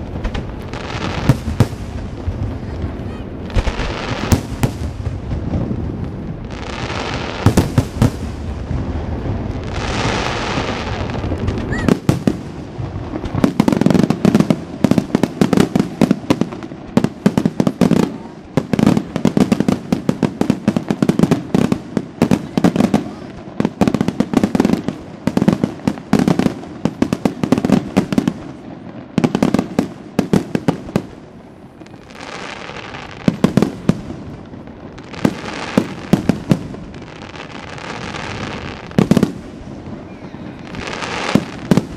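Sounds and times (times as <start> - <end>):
fireworks bangs: 0.0 - 41.9
fireworks hiss and crackle: 0.0 - 41.9.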